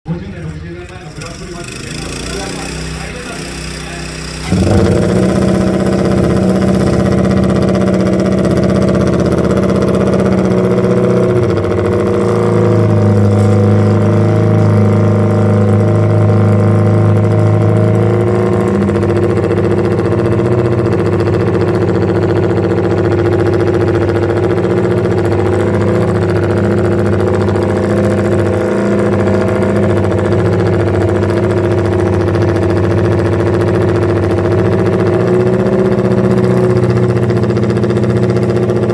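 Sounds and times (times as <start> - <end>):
racing engine idling: 0.0 - 38.9.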